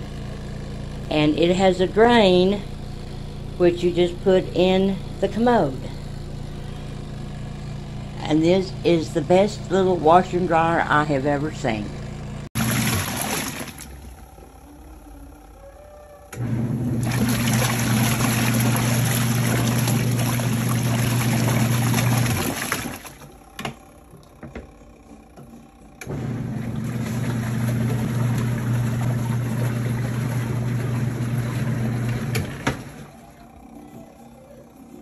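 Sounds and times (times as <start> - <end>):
washing machine motor and churning: 0.0 - 35.0.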